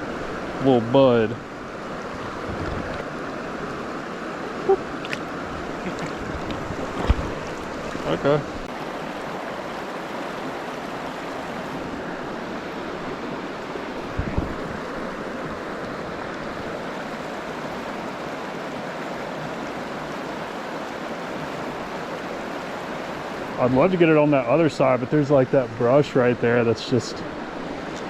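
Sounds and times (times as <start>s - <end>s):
stream flowing over rocks: 0.0s - 28.0s.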